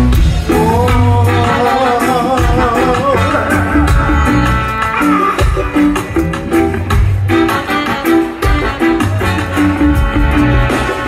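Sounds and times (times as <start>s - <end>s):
reggae band playing: 0.0s - 11.0s.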